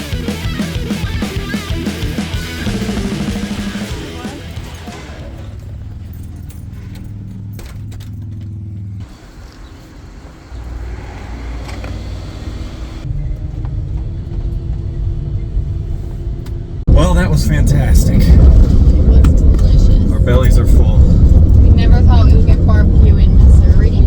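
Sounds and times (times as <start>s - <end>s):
vehicle engine and road hum: 1.2s - 24.0s.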